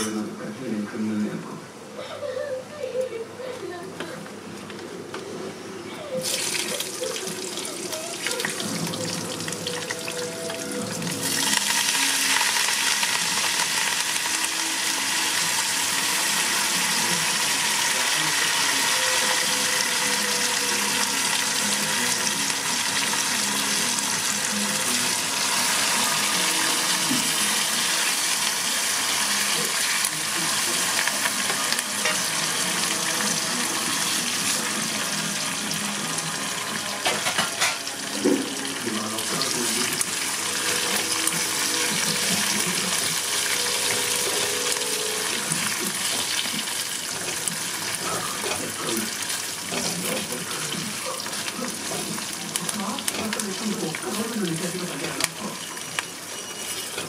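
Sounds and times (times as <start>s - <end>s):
food sizzling in hot oil: 6.2s - 57.0s.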